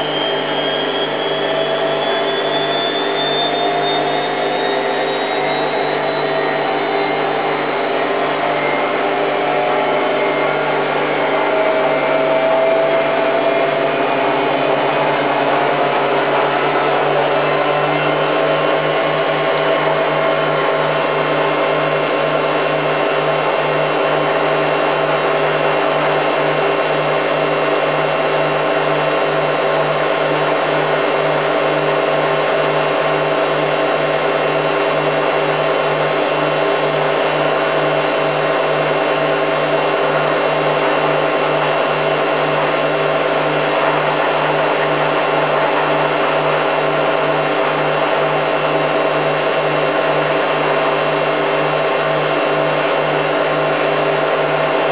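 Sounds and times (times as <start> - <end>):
washing machine spinning: 3.0 - 54.9.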